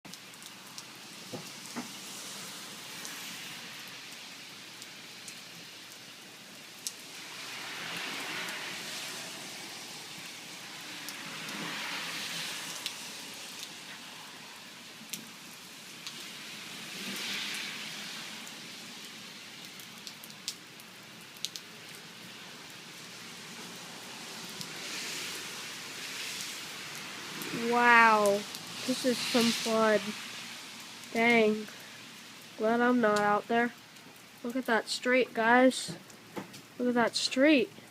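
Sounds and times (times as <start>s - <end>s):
heavy rain: 0.0s - 37.9s
raindrops ticking nearby: 0.0s - 37.9s.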